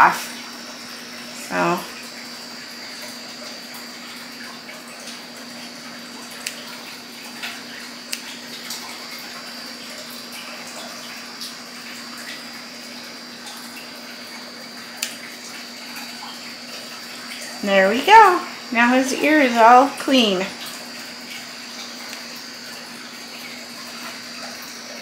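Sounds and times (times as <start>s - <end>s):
room noise hum and hiss: 0.0s - 25.0s.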